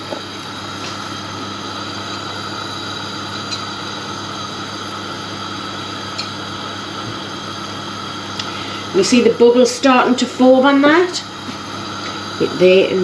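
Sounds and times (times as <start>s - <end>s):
kitchen background hum with hiss: 0.0s - 13.0s.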